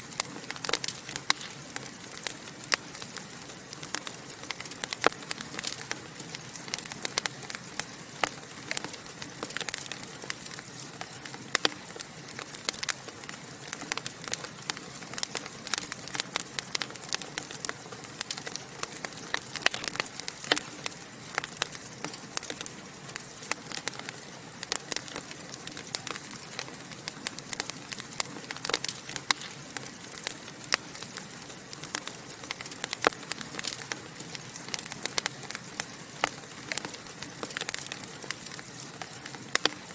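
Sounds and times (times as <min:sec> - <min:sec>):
soft steady hiss: 0:00.0 - 0:39.9
wood fire crackling and popping: 0:00.0 - 0:39.9.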